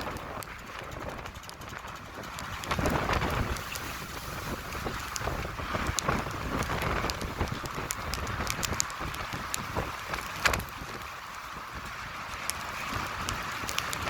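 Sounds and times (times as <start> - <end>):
rain hissing on surfaces: 0.0 - 14.0
sharp raindrop ticks: 0.0 - 14.0
wind rumbling on microphone: 0.0 - 14.0.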